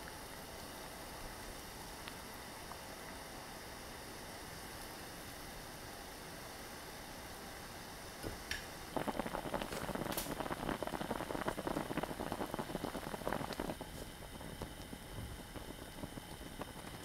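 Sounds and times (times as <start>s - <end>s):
liquid bubbling and crackling: 0.0s - 7.4s, 8.1s - 17.0s
faint steady hiss: 0.0s - 17.0s.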